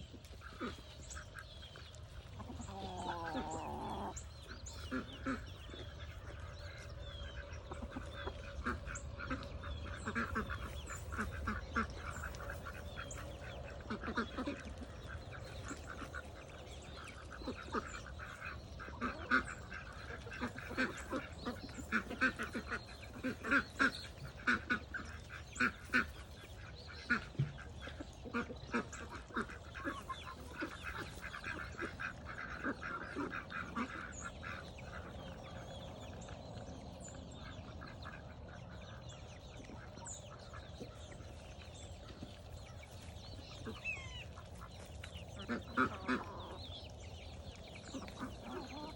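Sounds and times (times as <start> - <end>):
poultry flock calling: 0.2 - 35.9, 37.7 - 48.9.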